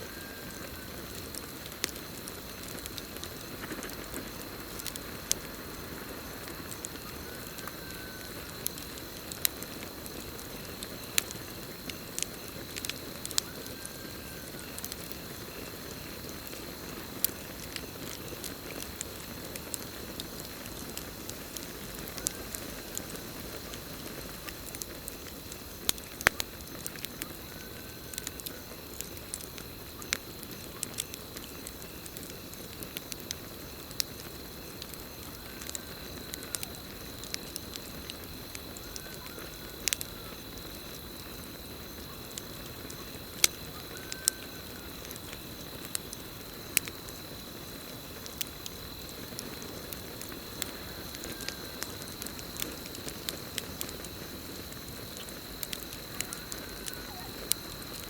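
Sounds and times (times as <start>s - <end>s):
campfire hissing: 0.0s - 58.0s
crickets trilling: 0.0s - 58.0s
fire crackles and pops: 0.0s - 58.0s.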